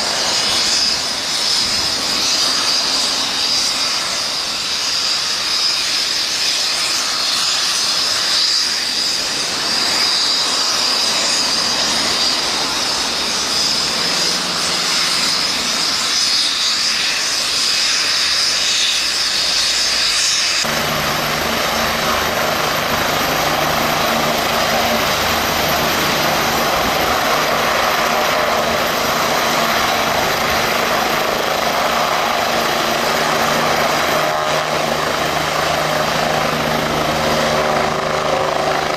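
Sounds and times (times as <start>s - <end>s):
helicopter rotor: 0.0s - 38.9s
helicopter turbine whine: 0.0s - 38.9s.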